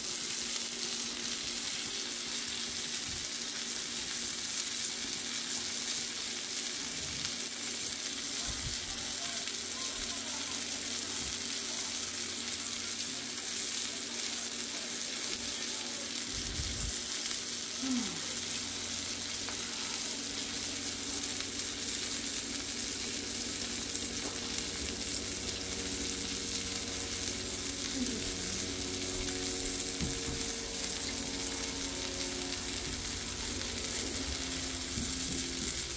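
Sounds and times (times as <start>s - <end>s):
fish sizzling in a frying pan: 0.0s - 35.9s.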